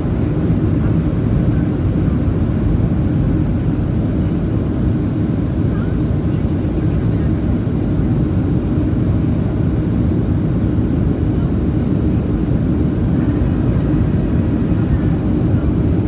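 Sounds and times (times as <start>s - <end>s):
airplane cabin noise: 0.0s - 16.0s.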